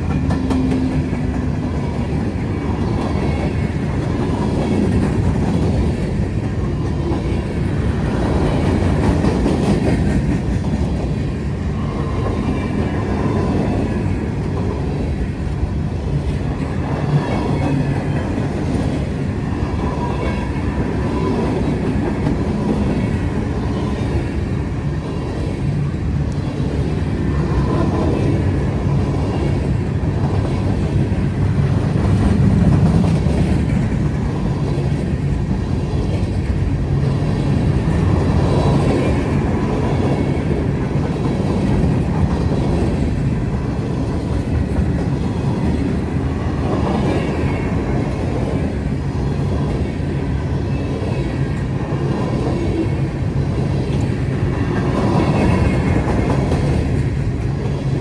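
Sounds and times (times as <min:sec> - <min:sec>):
freight train rumbling over rails: 0:00.0 - 0:58.0.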